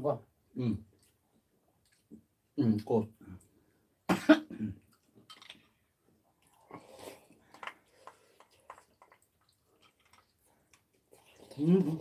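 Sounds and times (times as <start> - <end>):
soft chewing: 0.8 - 3.8, 4.7 - 12.0.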